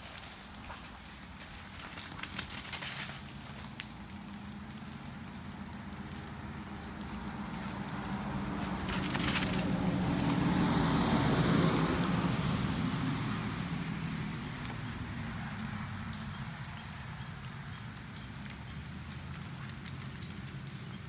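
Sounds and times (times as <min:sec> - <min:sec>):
passing vehicle rumble: 0:00.0 - 0:21.0.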